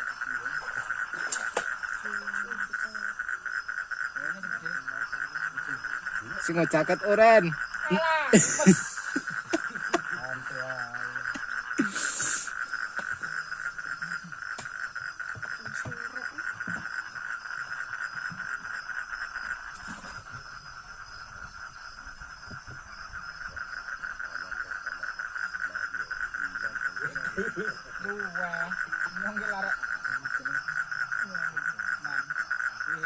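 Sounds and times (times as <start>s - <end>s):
frogs calling in chorus: 0.0s - 33.0s.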